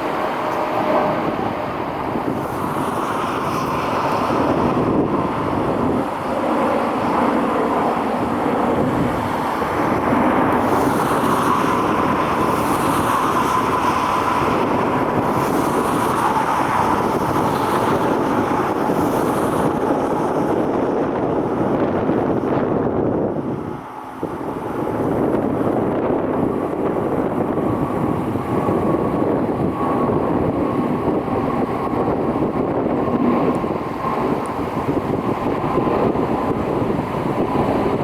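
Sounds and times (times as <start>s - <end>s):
jet airliner engines roaring: 0.0s - 38.0s.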